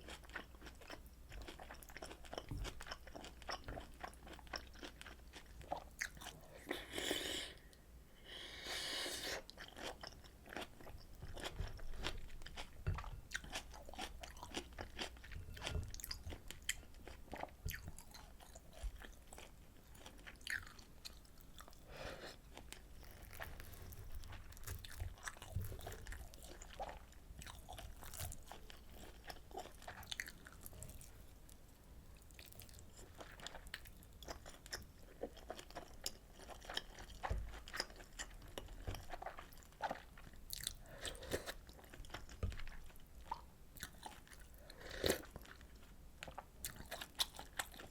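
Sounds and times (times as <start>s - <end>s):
person chewing food: 0.0s - 31.6s, 32.2s - 47.9s.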